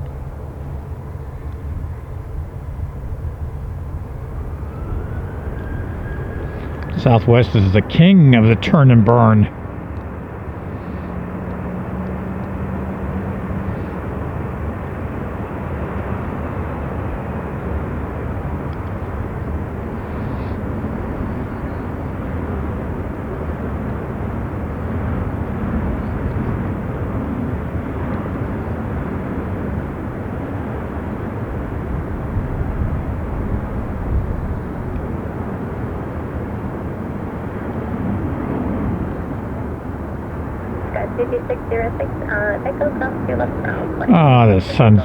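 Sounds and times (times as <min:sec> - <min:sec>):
jet engines at takeoff: 0:00.0 - 0:45.0.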